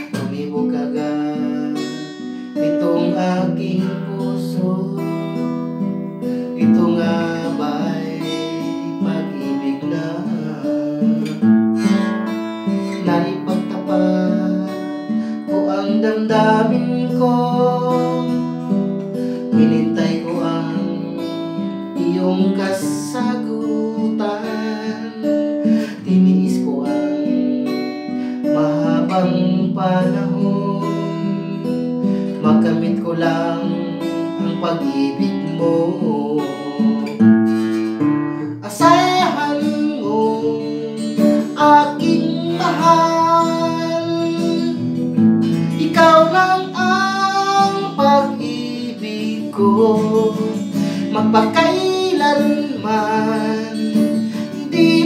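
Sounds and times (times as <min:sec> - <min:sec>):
acoustic guitar strumming: 0:00.0 - 0:55.0
man singing: 0:00.0 - 0:55.0.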